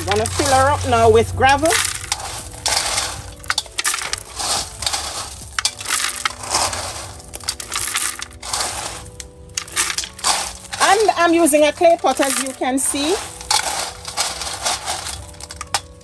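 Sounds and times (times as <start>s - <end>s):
gravel clattering into clay pot: 0.0s - 16.0s.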